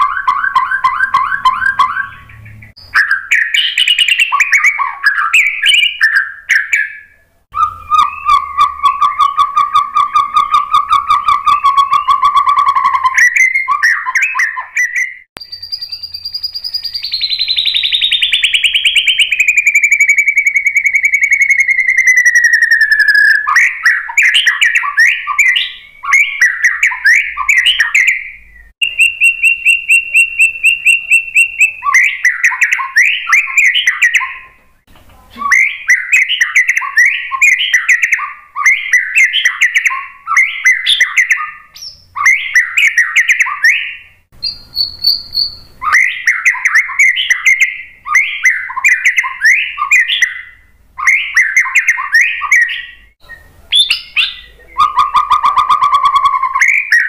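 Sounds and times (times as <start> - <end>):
bird singing varied whistles: 0.0 - 34.6, 35.4 - 57.0.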